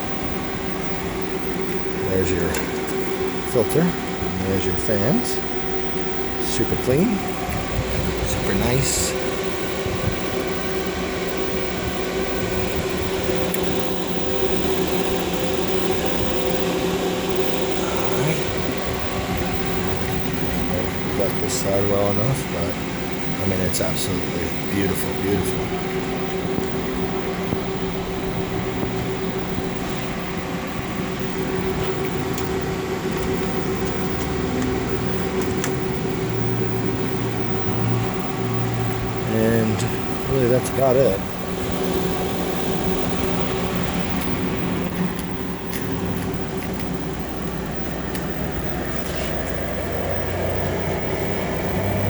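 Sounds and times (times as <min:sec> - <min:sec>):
oven fans humming: 0:00.0 - 0:52.0.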